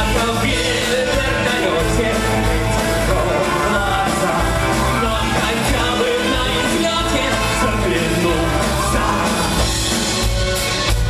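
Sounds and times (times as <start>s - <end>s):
electric guitar: 0.0s - 11.0s
symphonic rock played live: 0.0s - 11.0s.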